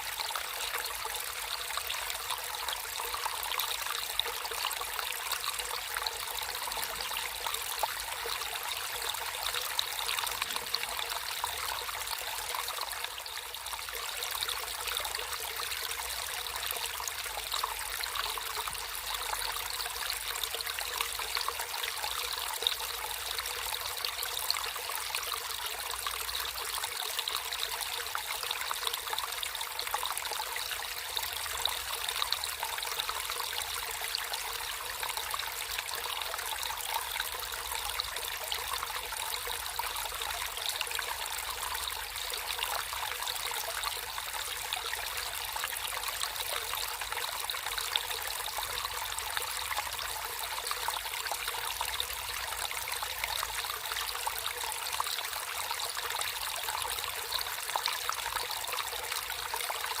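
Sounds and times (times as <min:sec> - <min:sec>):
stream water running over stones: 0:00.0 - 1:00.0.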